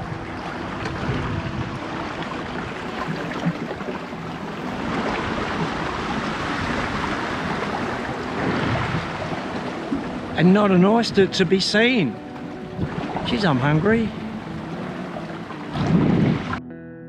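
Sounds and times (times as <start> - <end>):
wind on microphone: 0.0 - 11.5, 12.1 - 16.6
sea waves washing against rocks: 0.0 - 16.6.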